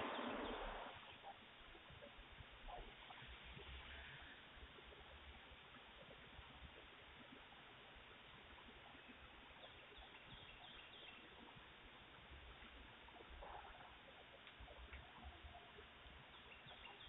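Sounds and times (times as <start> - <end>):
faint microphone hiss: 0.0 - 17.0.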